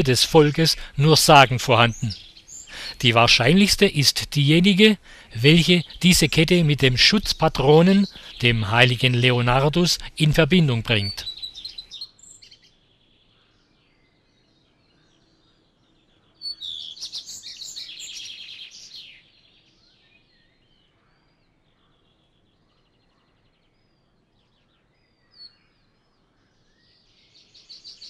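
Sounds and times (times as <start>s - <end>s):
loud trilling birdsong: 0.0s - 28.0s
songbirds chirping: 0.0s - 28.0s
faint high bird calls: 4.5s - 28.0s.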